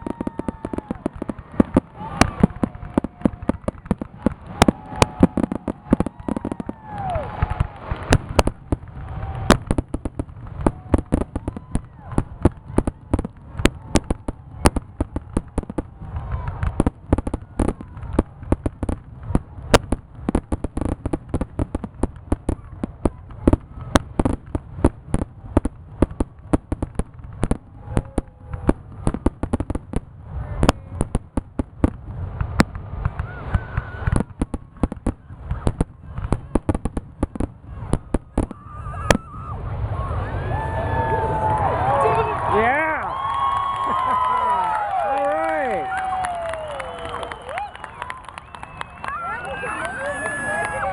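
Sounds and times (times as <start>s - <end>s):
low rumble: 0.0s - 44.3s
fireworks bangs: 0.0s - 50.9s
fireworks crackling: 0.0s - 50.9s.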